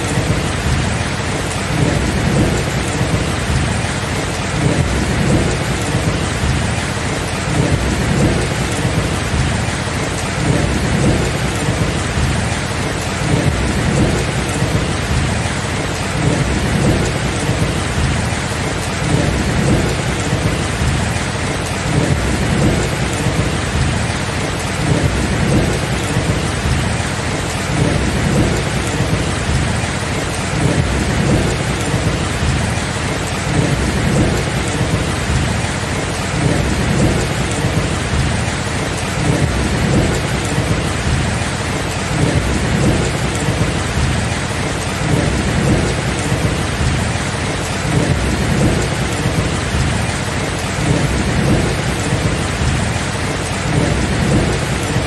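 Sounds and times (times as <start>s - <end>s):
heavy rain: 0.0s - 55.0s
low thunder rumbling: 0.0s - 55.0s.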